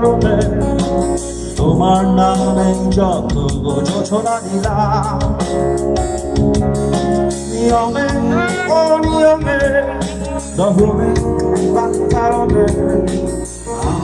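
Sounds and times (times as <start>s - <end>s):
man singing with vibrato: 0.0s - 6.0s, 7.3s - 14.0s
live band playing: 0.0s - 14.0s.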